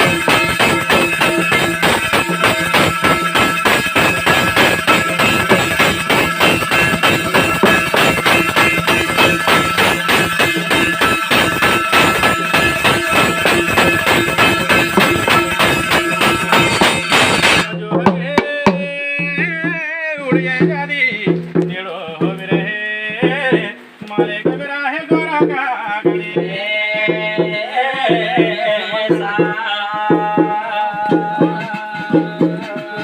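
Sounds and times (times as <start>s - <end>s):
dense loud folk music: 0.0s - 33.0s
hand drum beating: 0.0s - 33.0s.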